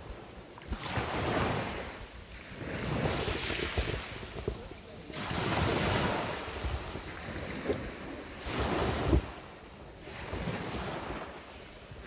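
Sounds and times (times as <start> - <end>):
waves washing up pebble beach: 0.0 - 12.0.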